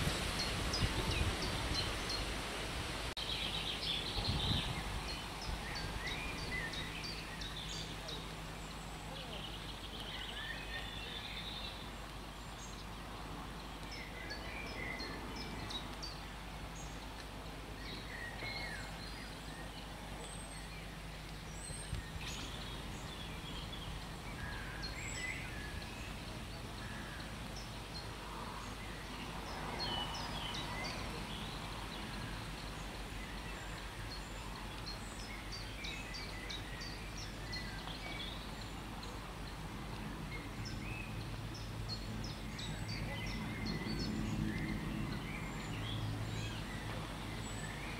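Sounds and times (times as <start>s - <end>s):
low background noise: 0.0s - 47.9s
small birds chirping: 0.0s - 47.9s.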